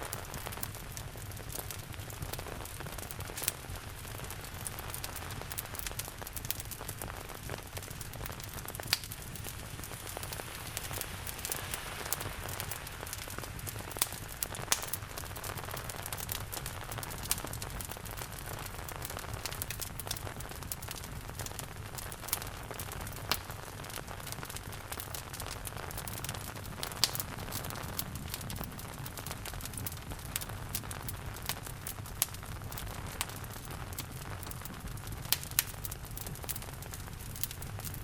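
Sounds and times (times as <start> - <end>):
steady rain: 0.0 - 38.0
wood fire crackling: 0.0 - 38.0.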